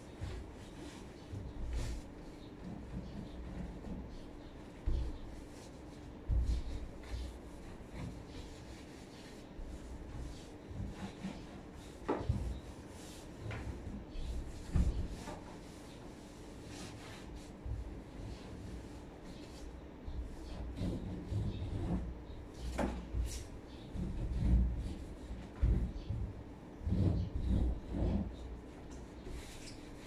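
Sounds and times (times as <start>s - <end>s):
cloth rubbing on wood: 0.0s - 26.1s, 26.8s - 30.0s.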